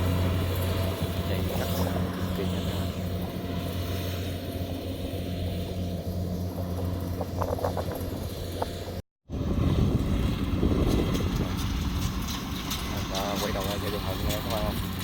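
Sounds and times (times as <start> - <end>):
combine harvester engine humming: 0.0 - 15.0.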